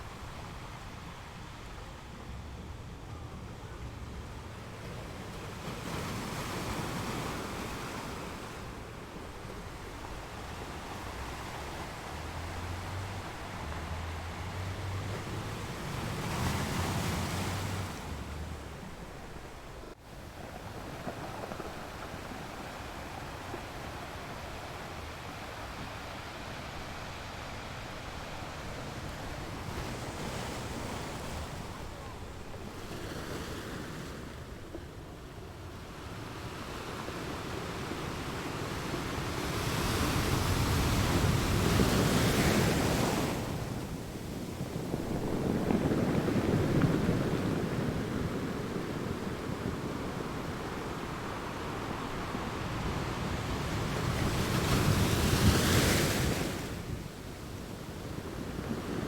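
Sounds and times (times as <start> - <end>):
ocean waves washing in: 3.9 - 59.0.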